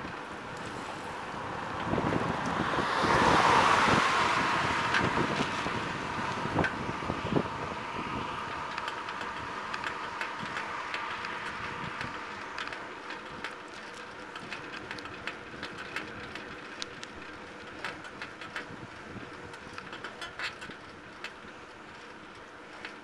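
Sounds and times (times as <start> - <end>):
bicycle clicks and rattles: 0.0 - 23.0
wind and tyre noise: 0.0 - 23.0.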